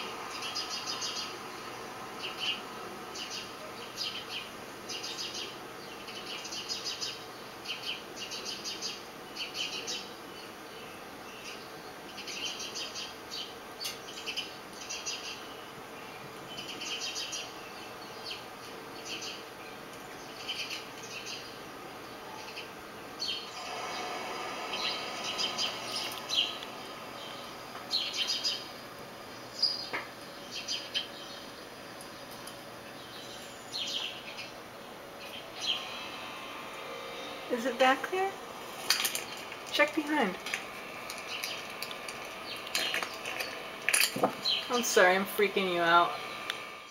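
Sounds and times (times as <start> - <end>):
songbirds chirping: 0.0 - 46.9.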